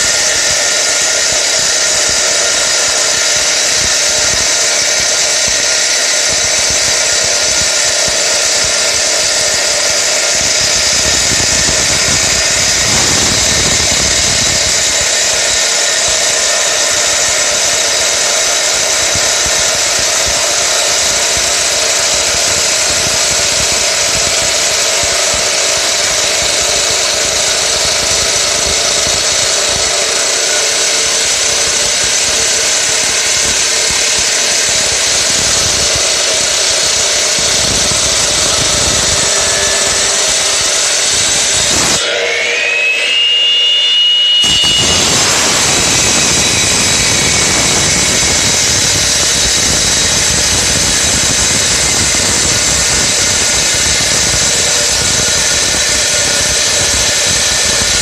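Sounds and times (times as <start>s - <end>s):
heavy low grinding: 0.0s - 43.1s, 44.4s - 58.0s
power cutter grinding concrete: 0.0s - 58.0s.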